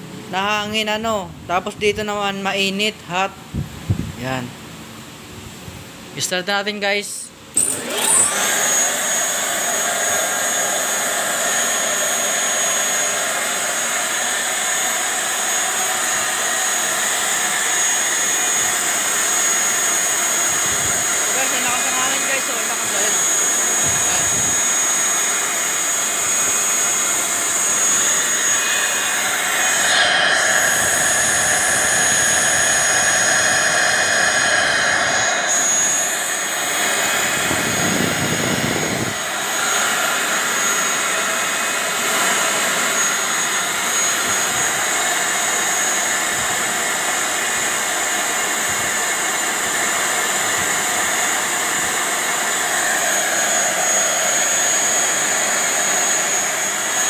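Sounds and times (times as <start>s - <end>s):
turbocharger spinning with whine: 7.5s - 57.0s.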